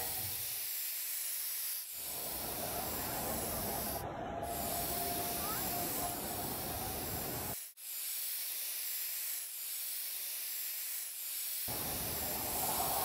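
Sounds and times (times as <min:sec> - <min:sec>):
spray paint can hissing: 0:00.0 - 0:13.0.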